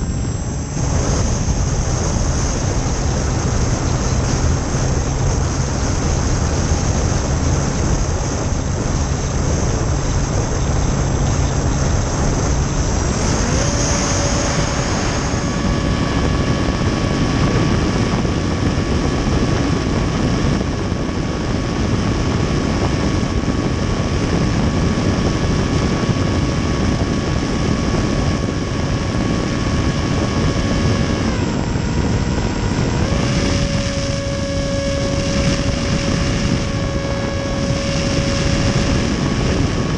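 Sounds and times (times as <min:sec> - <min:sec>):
electric motor and propeller: 0:00.0 - 0:39.9
heavy wind rush: 0:00.0 - 0:39.9
steady whine: 0:00.0 - 0:39.9.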